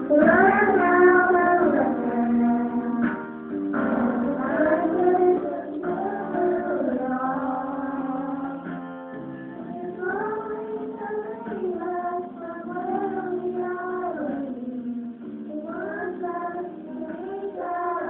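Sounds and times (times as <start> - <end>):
instrumental accompaniment: 0.0 - 18.0
person singing slow melody: 0.0 - 18.0.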